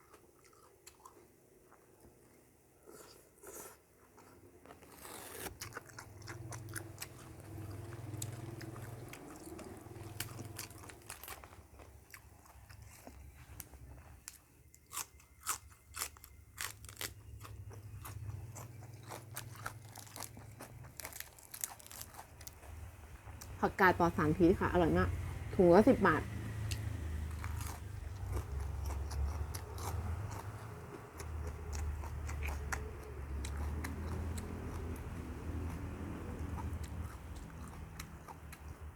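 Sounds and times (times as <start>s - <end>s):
chewing crisp raw vegetables: 0.0s - 38.9s.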